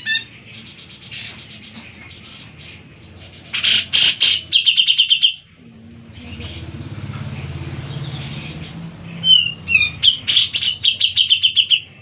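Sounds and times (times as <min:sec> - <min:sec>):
bird singing: 0:00.0 - 0:12.0.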